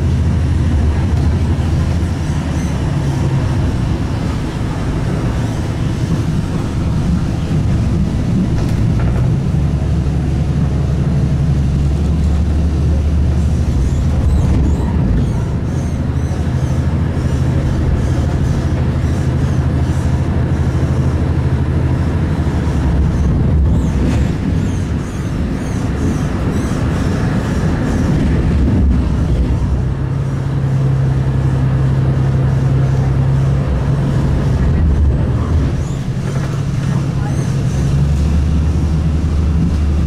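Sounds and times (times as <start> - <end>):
train rumble with low hum: 0.0 - 40.0.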